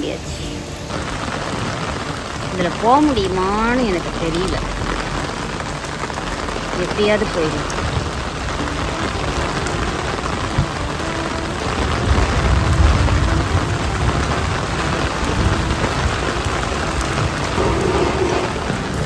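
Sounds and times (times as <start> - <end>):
rain on wet pavement: 0.0 - 19.0.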